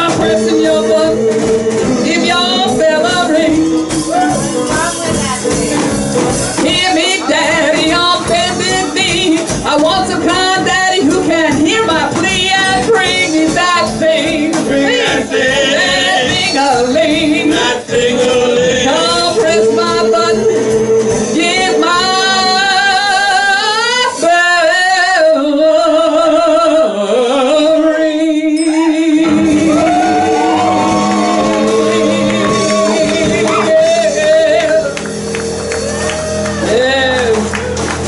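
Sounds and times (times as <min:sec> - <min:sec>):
woman singing with vibrato: 0:00.0 - 0:05.9, 0:06.6 - 0:37.6
live blues band: 0:00.0 - 0:27.0, 0:27.6 - 0:38.0.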